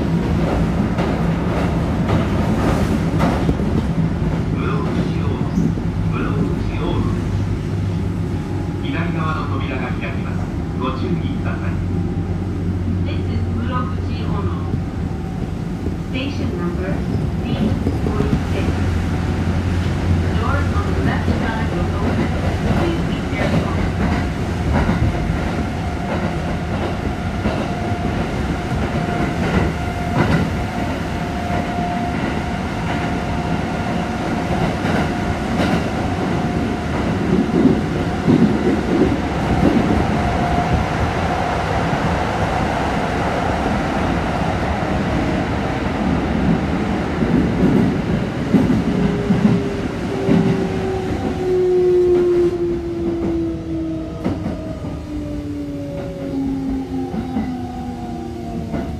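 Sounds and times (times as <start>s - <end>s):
train rumble: 0.0s - 58.9s.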